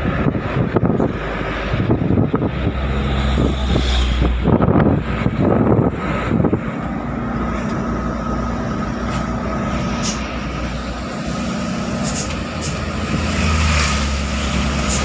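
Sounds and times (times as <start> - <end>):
diesel engine running: 0.0 - 15.0
wind buffeting at window: 0.0 - 15.0.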